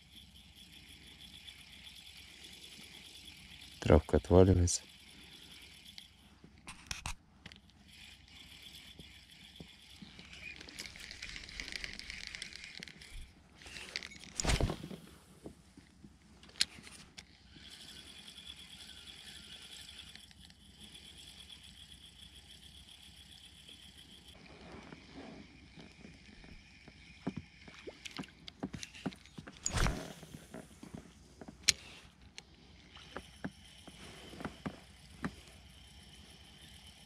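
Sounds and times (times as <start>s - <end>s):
fishing reel whirring: 0.0s - 14.5s, 16.5s - 30.7s, 31.7s - 37.0s.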